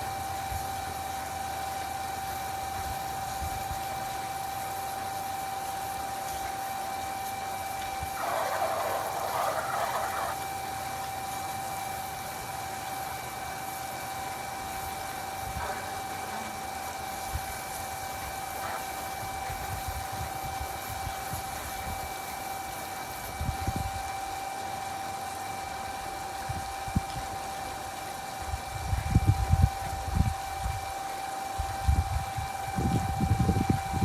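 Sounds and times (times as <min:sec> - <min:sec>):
machine hum with whine: 0:00.0 - 0:34.0.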